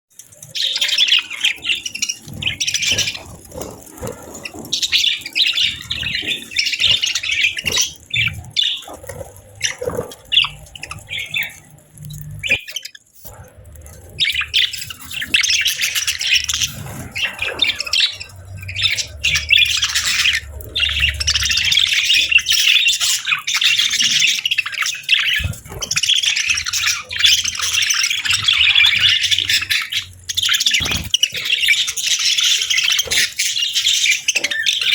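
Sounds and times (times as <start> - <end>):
budgerigars chirping and chattering: 0.2 - 34.9.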